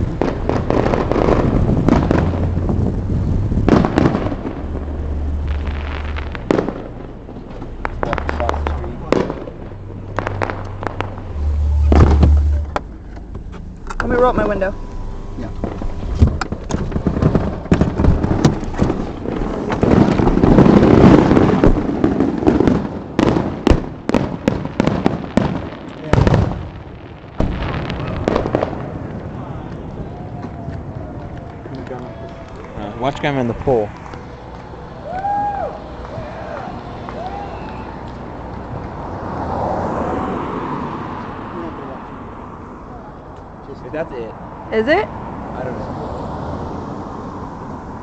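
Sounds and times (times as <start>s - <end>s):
steady low rumble: 0.0s - 39.3s
fireworks bursting: 0.0s - 40.0s
fireworks crackling: 0.0s - 41.9s.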